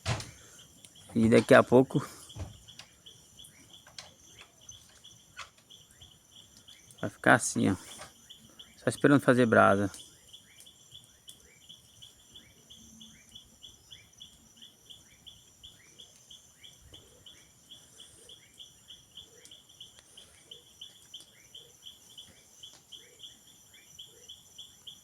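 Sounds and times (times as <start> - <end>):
high-pitched insect trill: 0.0 - 25.0
insects chirping: 0.0 - 25.0.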